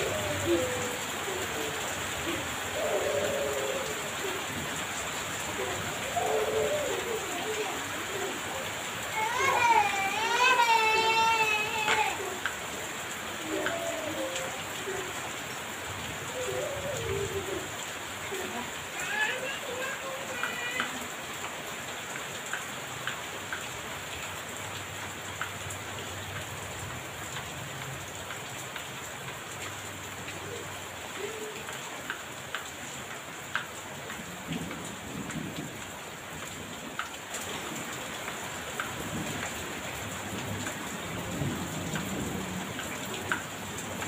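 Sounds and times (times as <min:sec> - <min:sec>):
heavy rain falling: 0:00.0 - 0:44.0
raindrops ticking on hard surface: 0:00.0 - 0:44.0.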